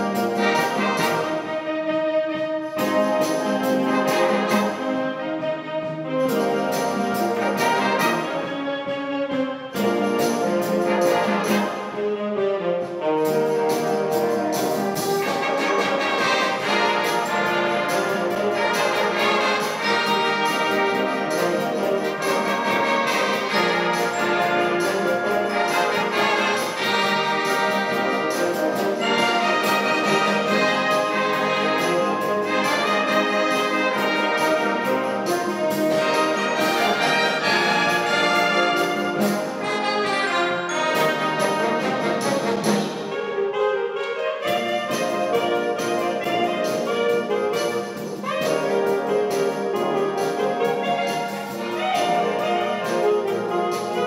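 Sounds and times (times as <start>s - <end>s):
percussion beat: 0.0s - 1.8s, 2.7s - 5.1s, 6.0s - 8.6s, 9.8s - 12.0s, 13.0s - 43.4s, 44.4s - 54.0s
wind band playing: 0.0s - 54.0s.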